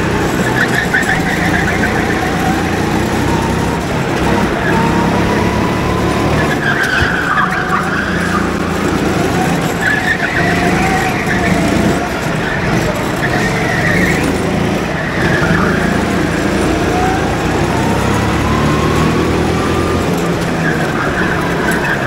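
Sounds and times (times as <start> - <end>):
go-kart engine running: 0.0 - 22.0
tyres squealing: 0.0 - 22.0.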